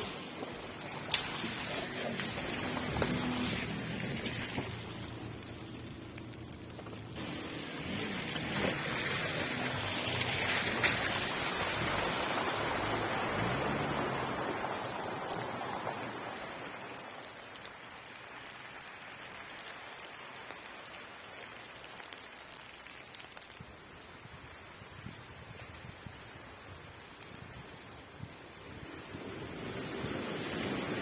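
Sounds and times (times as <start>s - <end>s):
rain hissing: 0.0s - 31.0s.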